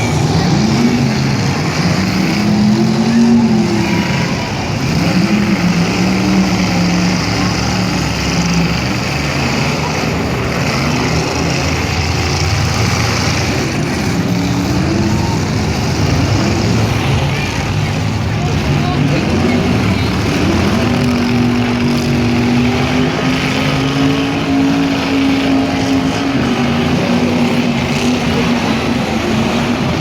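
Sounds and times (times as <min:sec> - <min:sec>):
steady engine din: 0:00.0 - 0:30.0
truck engines revving: 0:00.0 - 0:30.0.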